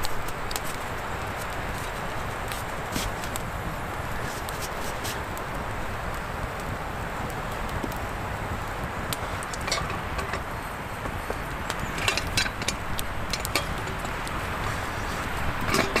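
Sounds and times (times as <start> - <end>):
campfire crackling and popping: 0.0 - 16.0
steady rushing noise: 0.0 - 16.0.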